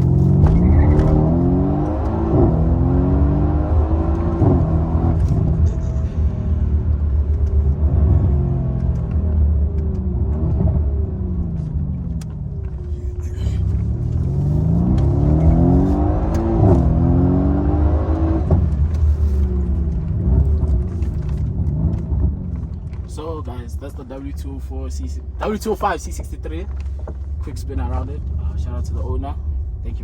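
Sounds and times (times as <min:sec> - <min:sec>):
car engine accelerating hard: 0:00.0 - 0:24.6
exhaust crackles: 0:00.0 - 0:30.0.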